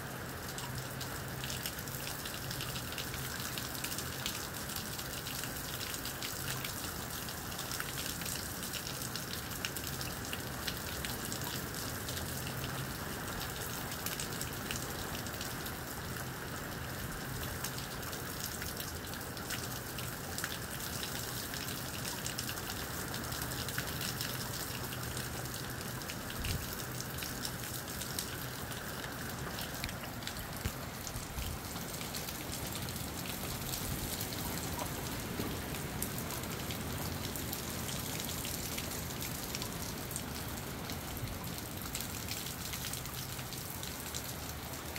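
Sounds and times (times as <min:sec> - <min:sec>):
rain falling on hard surfaces: 0:00.0 - 0:44.9.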